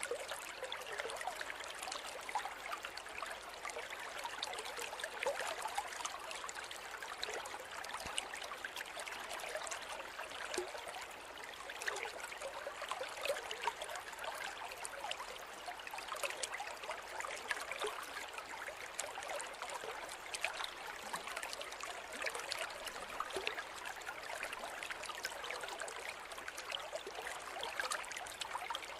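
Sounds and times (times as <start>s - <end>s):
water trickling and splashing: 0.0s - 28.9s.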